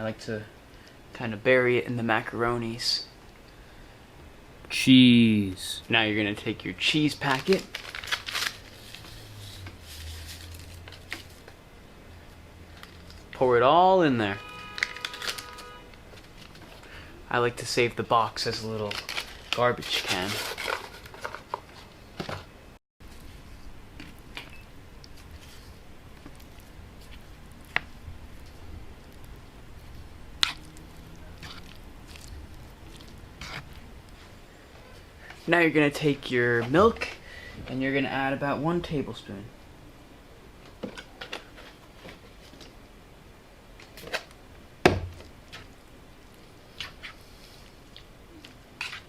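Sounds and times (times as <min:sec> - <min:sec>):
room hum: 0:00.0 - 0:49.0.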